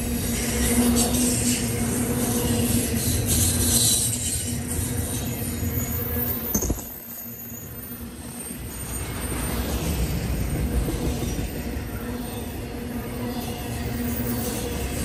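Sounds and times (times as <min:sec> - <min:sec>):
freight train rumbling over rails: 0:00.0 - 0:15.0.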